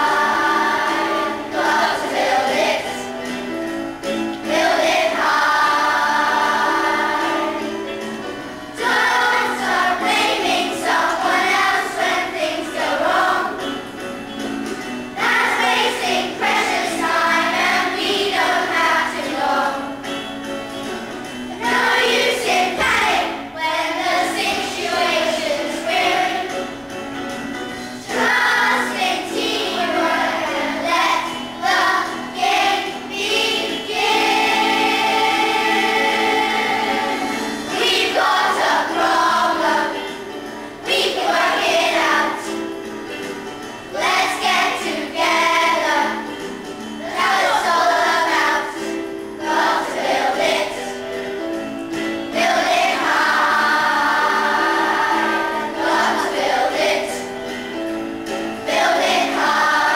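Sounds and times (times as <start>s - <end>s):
children singing: 0.0s - 14.0s, 15.1s - 20.2s, 21.5s - 27.0s, 27.7s - 59.9s
musical accompaniment: 0.0s - 59.9s.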